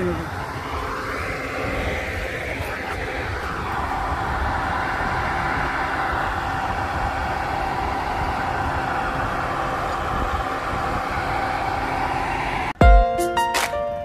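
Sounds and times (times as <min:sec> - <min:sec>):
concrete pump engine drone: 0:00.0 - 0:14.0
constant whine: 0:00.0 - 0:14.0.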